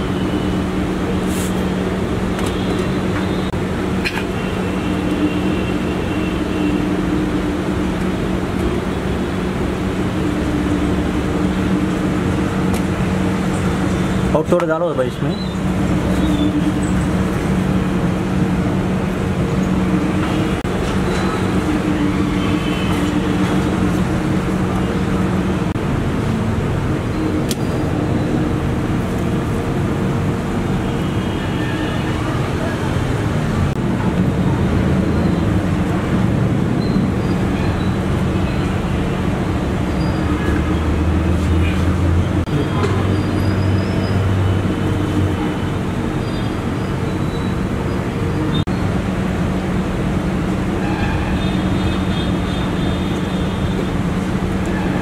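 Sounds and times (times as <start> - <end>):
traffic noise: 0.0 - 55.0.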